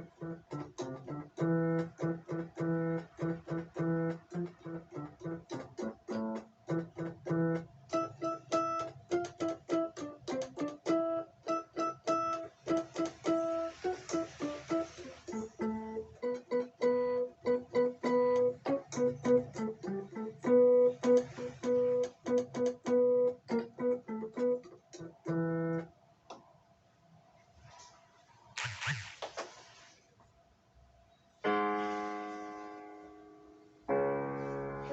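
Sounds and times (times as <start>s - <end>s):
digital piano playing short notes: 0.0s - 25.9s, 31.4s - 34.9s.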